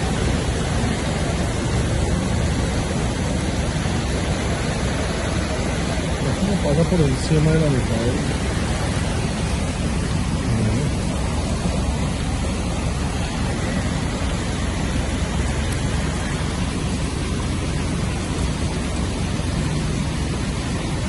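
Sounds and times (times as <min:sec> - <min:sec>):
heavy rain: 0:00.0 - 0:21.0
running water: 0:00.0 - 0:21.0.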